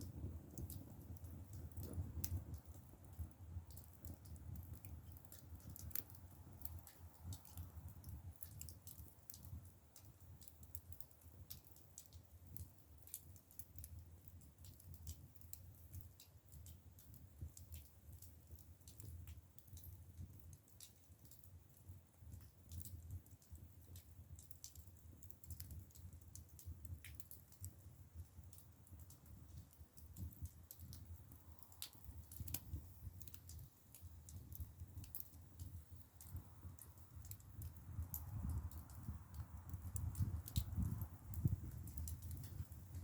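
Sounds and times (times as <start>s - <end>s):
firewood crackling and popping: 0.0s - 43.0s
low rumble of fire: 0.0s - 43.0s.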